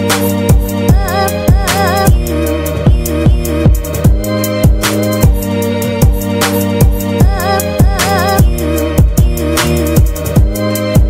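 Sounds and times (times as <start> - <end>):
electronic music with heavy beat: 0.0 - 11.0.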